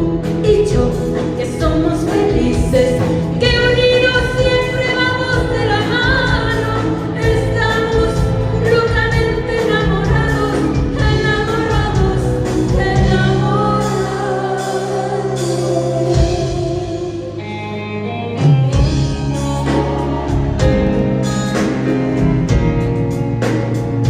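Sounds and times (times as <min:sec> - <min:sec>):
person singing: 0:00.0 - 0:20.8
live band playing: 0:00.0 - 0:24.0.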